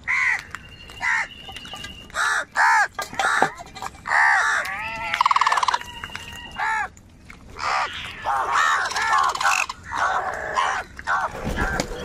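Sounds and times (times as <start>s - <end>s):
crows cawing: 0.0s - 6.9s, 7.6s - 12.0s.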